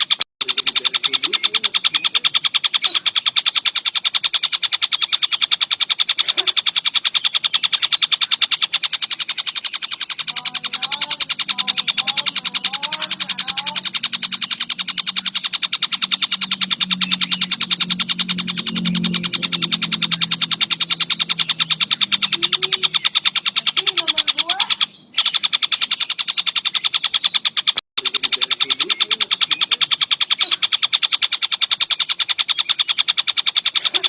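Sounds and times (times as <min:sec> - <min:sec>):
kingfisher rattling call: 0:00.0 - 0:34.0.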